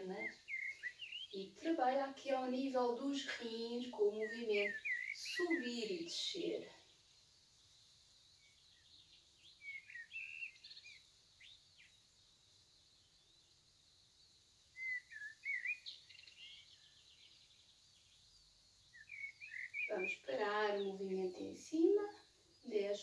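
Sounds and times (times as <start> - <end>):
small birds chirping and twittering: 0.0 - 23.0.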